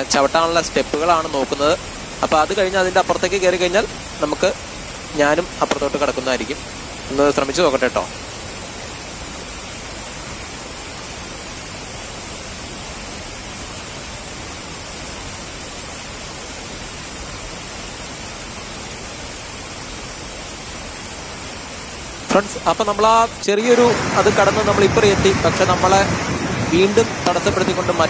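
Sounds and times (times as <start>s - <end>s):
river pouring over weir: 0.0s - 28.0s.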